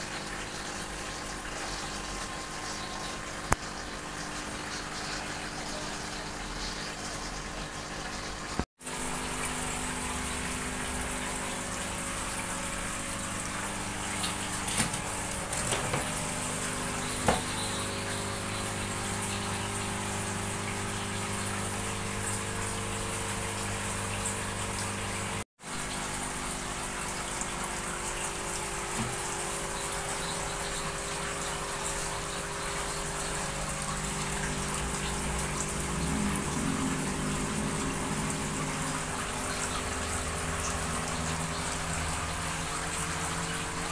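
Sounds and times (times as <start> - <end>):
aquarium pumps humming: 0.0 - 43.9
water rushing and trickling: 0.0 - 43.9.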